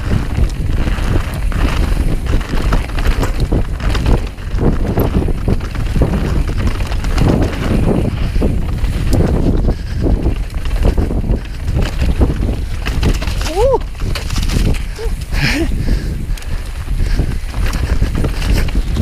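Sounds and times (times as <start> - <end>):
bike rattling and clattering: 0.0 - 19.0
tyres rumbling over gravel: 0.0 - 19.0
wind buffeting on microphone: 0.0 - 19.0.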